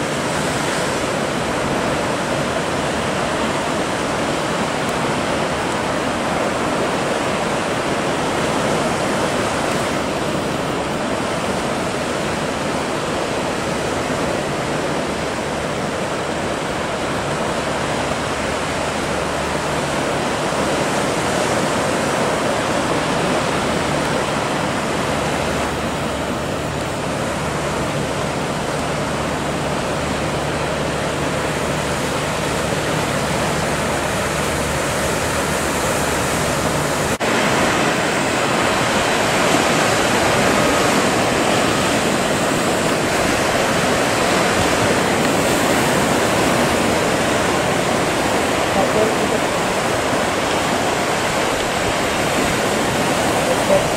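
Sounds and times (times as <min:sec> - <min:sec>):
boat engine hum: 0:00.0 - 0:53.9
breaking waves: 0:00.0 - 0:53.9.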